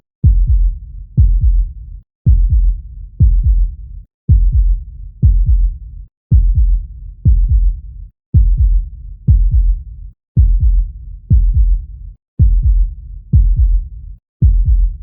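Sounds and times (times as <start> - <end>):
heartbeat thumping: 0.2 - 1.7, 2.3 - 9.8, 10.4 - 11.8, 12.4 - 15.0.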